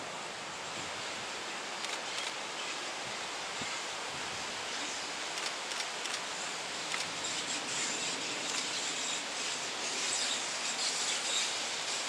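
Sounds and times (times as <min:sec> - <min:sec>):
wind through trees: 0:00.0 - 0:12.0.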